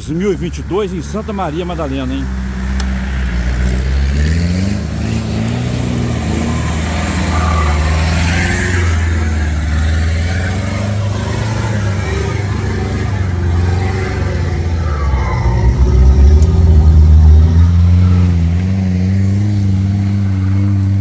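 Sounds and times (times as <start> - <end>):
off-road vehicle engine revving: 0.0 - 21.0
vehicle passing close: 1.7 - 21.0.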